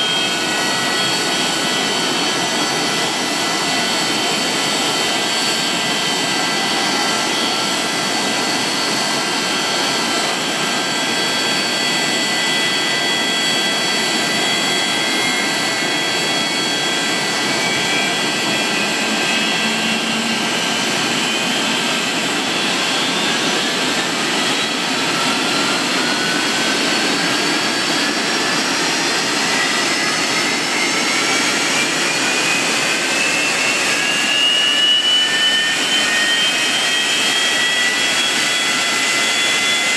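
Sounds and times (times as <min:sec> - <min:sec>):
jet engine whine rising in pitch: 0:00.0 - 0:39.9
jet engines running: 0:00.0 - 0:39.9.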